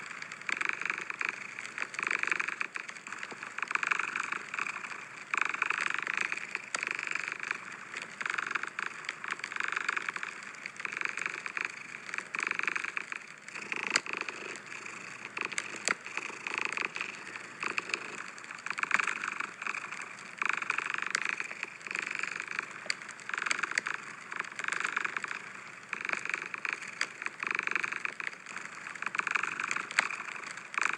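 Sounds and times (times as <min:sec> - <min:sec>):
cat purring: 0:00.5 - 0:30.9.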